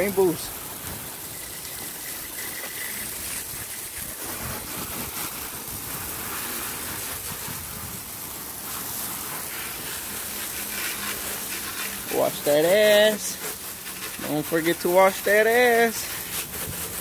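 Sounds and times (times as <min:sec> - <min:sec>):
hose spraying water on car: 0:00.0 - 0:17.0.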